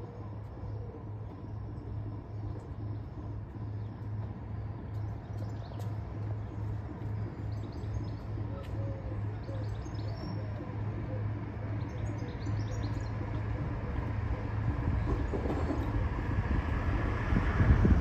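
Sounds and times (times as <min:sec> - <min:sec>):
birds chirping: 0:00.0 - 0:16.0
diesel locomotive engine humming: 0:00.0 - 0:18.0.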